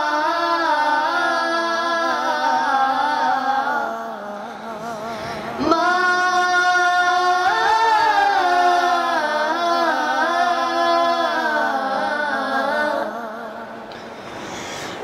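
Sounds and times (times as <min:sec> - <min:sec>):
boys singing in unison: 0:00.0 - 0:13.9.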